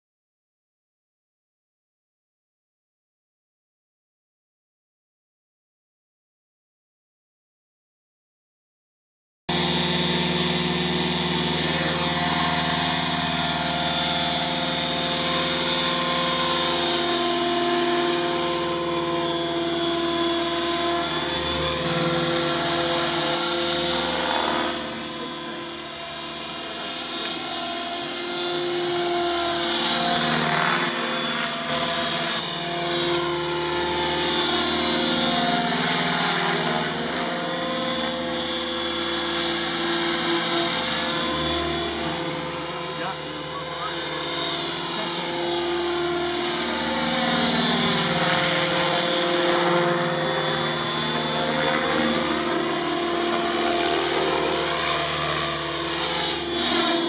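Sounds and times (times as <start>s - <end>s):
model helicopter motor whine: 9.5s - 57.0s.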